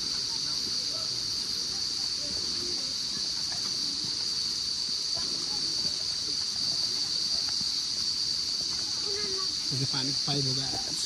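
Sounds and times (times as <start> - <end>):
faint voices: 0.0 - 11.0
high-pitched insect drone: 0.0 - 11.0.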